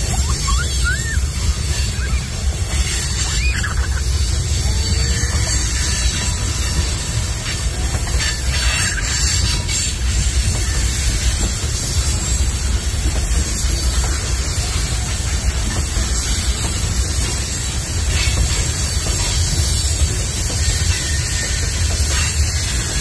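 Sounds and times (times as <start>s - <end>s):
freight train rumble: 0.0s - 23.0s
rushing hiss: 0.0s - 23.0s.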